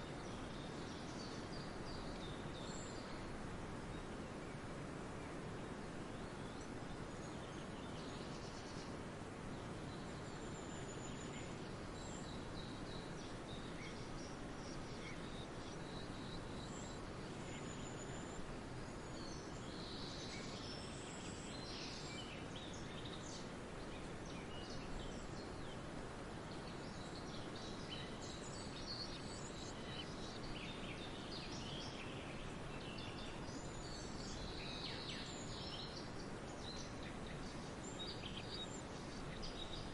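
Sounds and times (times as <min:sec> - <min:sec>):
outdoor background hiss: 0:00.0 - 0:39.9
small birds chirping and trilling: 0:00.0 - 0:39.9.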